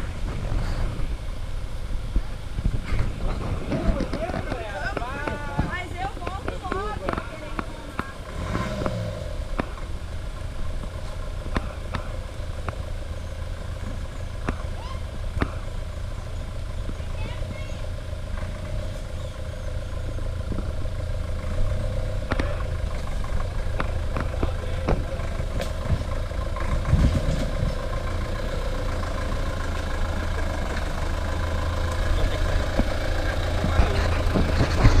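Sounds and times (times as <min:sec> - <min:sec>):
pickup engine running low speed: 0:00.0 - 0:35.0.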